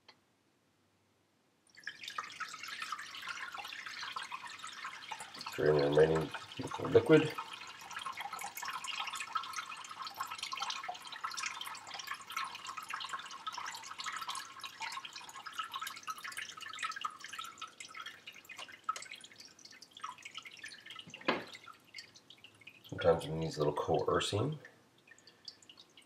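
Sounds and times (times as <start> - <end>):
stock dripping into a bowl: 1.7 - 26.0.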